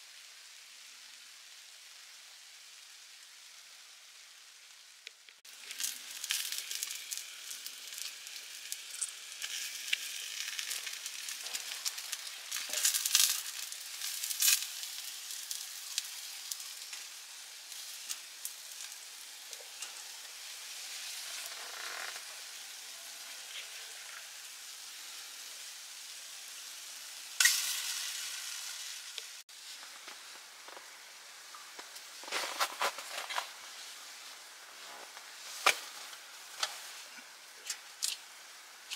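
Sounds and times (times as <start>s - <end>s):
fish and sausage sizzling on grill: 0.0s - 38.9s.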